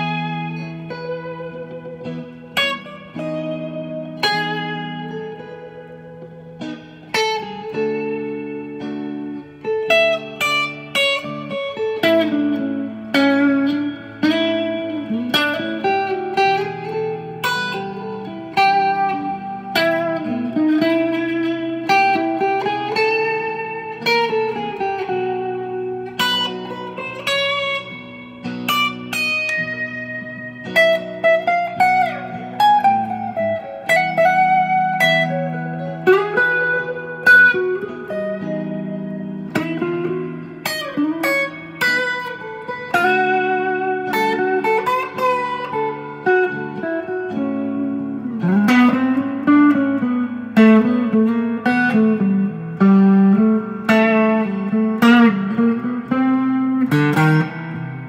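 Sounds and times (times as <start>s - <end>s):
clean electric guitar lead: 0.0s - 58.0s.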